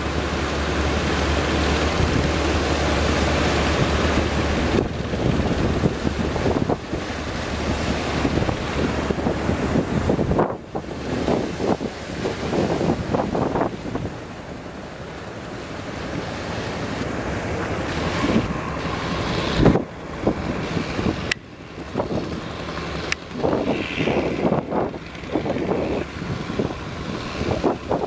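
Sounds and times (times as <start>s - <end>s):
surf breaking: 0.0s - 28.0s
wind gusting over microphone: 0.0s - 28.0s.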